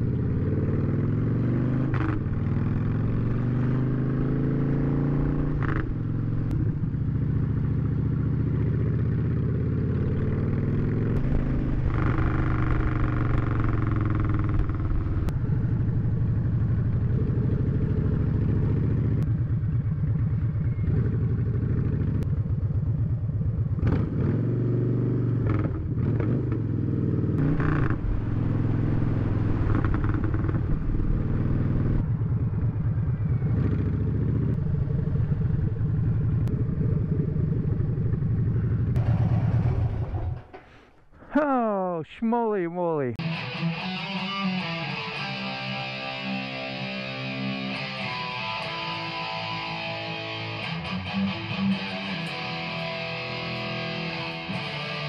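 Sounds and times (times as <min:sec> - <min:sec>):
motorcycle engine revving: 0:00.0 - 0:41.0, 0:43.2 - 0:55.0.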